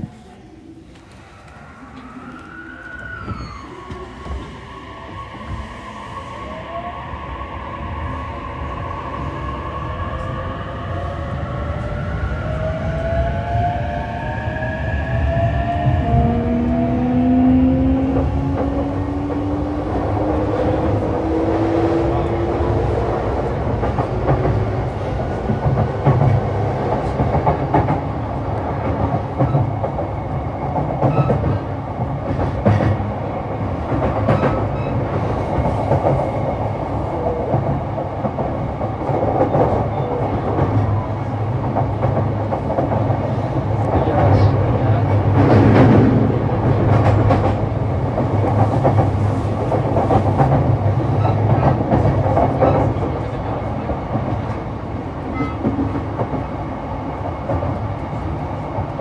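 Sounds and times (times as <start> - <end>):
train wheels rumbling on rails: 7.7 - 59.0.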